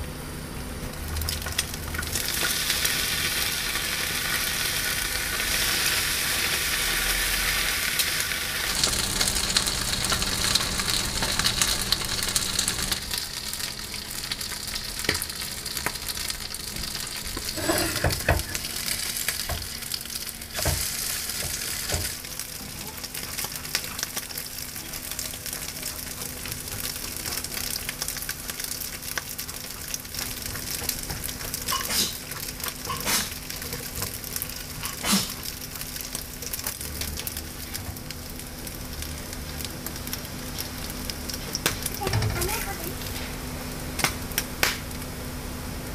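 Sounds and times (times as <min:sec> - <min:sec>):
food sizzling in a frying pan: 0:00.9 - 0:45.9.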